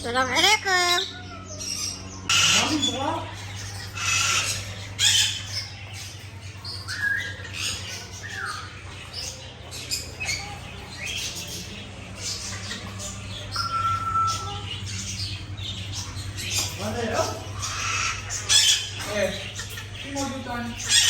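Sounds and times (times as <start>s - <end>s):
caged birds chirping and squawking: 0.0s - 21.0s
steady low hum: 0.0s - 21.0s.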